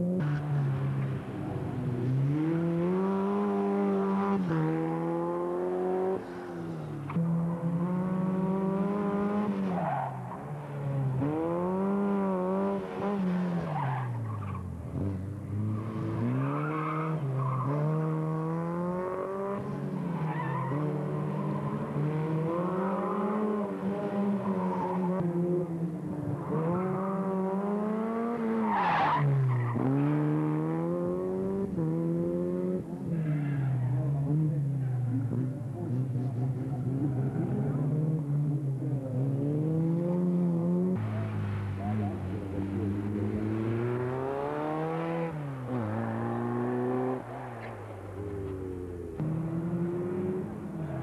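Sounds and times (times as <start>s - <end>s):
racing car engine revving: 0.0s - 51.0s.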